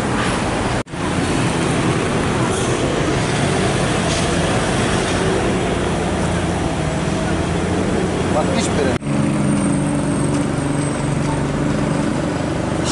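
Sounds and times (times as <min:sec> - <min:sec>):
passing traffic: 0:00.0 - 0:12.9.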